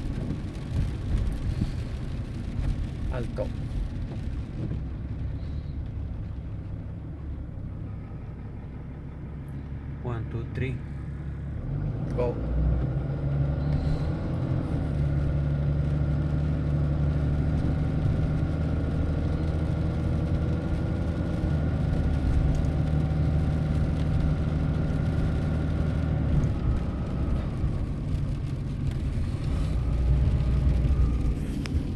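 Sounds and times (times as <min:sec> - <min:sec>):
car engine and road noise: 0:00.0 - 0:31.9.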